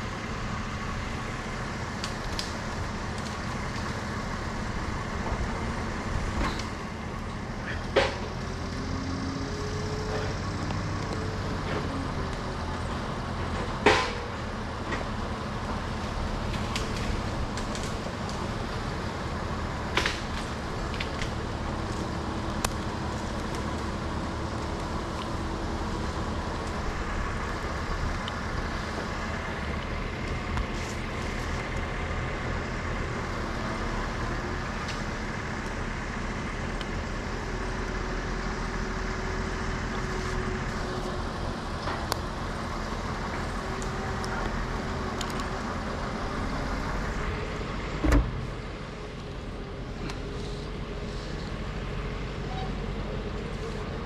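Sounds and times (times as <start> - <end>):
large engine idling: 0.0 - 54.0.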